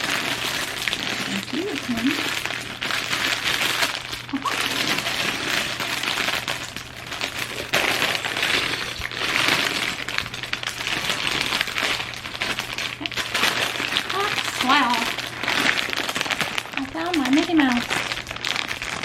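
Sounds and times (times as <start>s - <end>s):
plastic bags crinkling: 0.0s - 19.0s
plastic pieces clattering: 0.0s - 19.0s.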